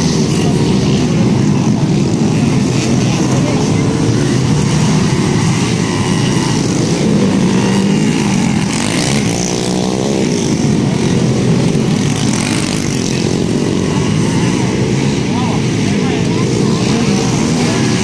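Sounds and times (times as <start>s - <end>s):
motorcycle engines running hard: 0.0s - 18.0s.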